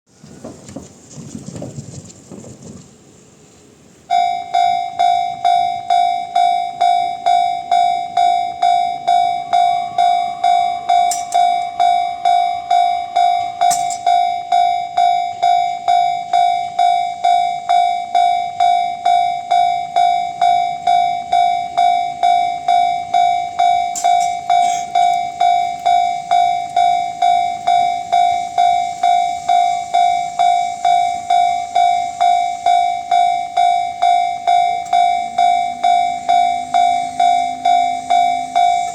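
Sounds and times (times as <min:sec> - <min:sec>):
level crossing alarm dinging: 0:04.1 - 0:38.9.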